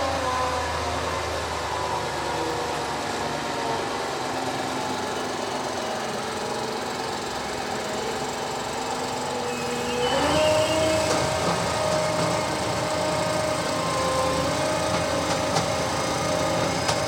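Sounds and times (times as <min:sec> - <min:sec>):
harvester engine running: 0:01.6 - 0:17.0.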